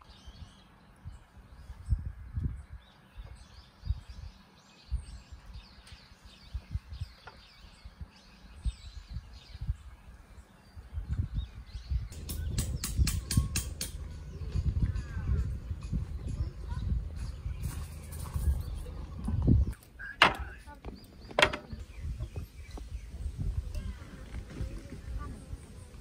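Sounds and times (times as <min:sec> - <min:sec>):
small birds chirping: 0:00.0 - 0:26.0
wind buffeting microphone: 0:00.2 - 0:19.8, 0:20.6 - 0:26.0.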